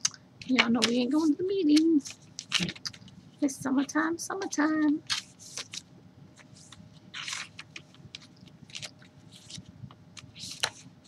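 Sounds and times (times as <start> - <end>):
paper pages rustling: 0.4 - 3.3, 4.4 - 11.0.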